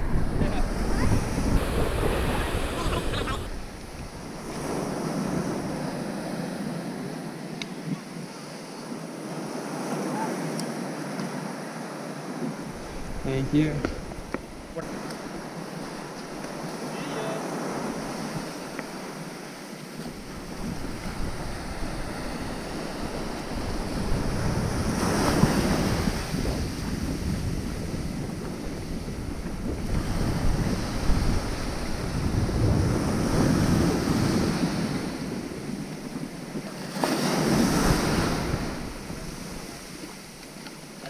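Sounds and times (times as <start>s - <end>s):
wind buffeting microphone: 0.0s - 10.0s, 12.4s - 16.9s, 17.5s - 41.0s
ocean surf breaking: 0.0s - 41.0s.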